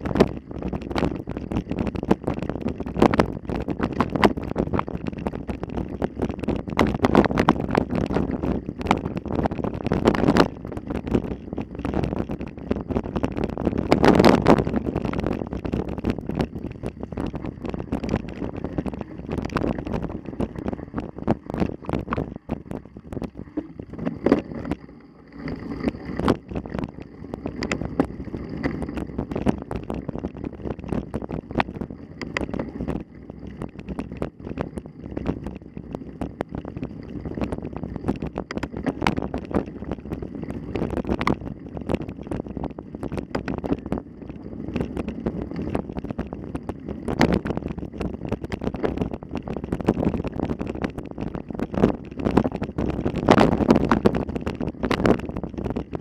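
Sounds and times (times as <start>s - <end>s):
bike rattling over rough ground: 0.0s - 56.0s
wind buffeting microphone: 0.0s - 56.0s.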